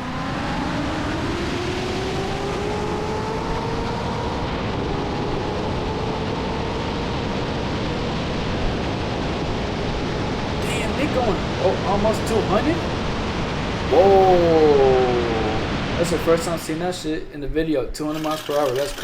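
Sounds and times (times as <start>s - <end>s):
wind and road noise: 0.0s - 17.3s.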